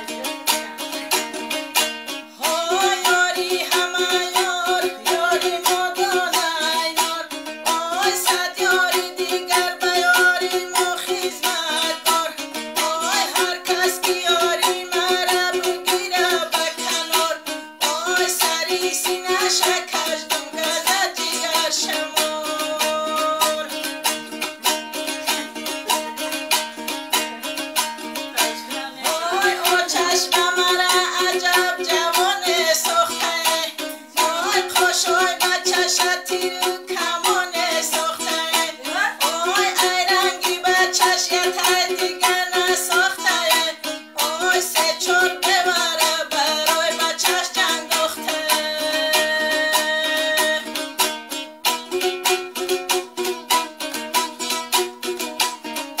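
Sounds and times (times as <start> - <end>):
woman singing: 0.0 - 51.1
lute strumming: 0.0 - 56.0.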